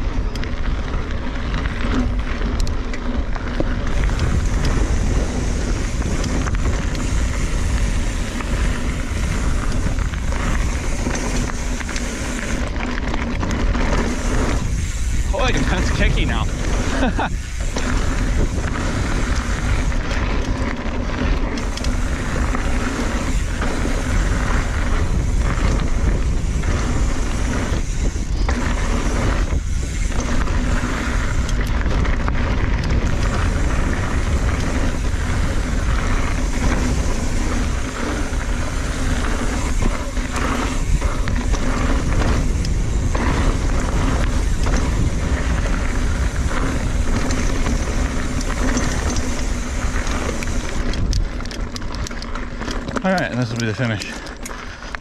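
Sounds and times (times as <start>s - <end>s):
wind buffeting microphone: 0.0s - 54.5s
bike rattling over rough ground: 0.0s - 55.0s
bike tyres on loose dirt: 0.0s - 55.0s.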